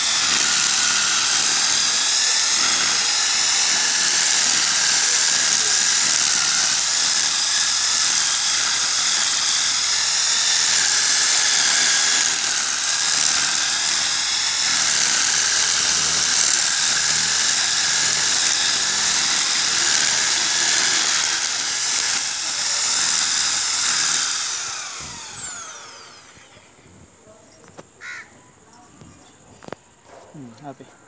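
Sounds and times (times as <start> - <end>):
power drill grass cutter whining: 0.0 - 26.8.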